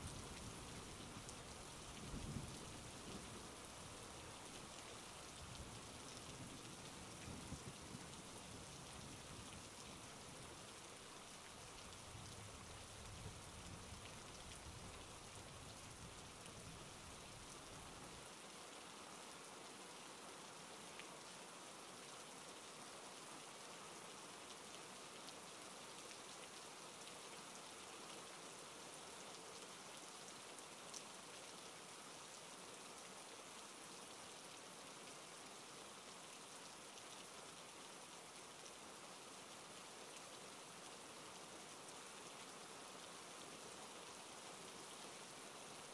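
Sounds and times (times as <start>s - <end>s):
soft rain falling: 0.0s - 45.9s.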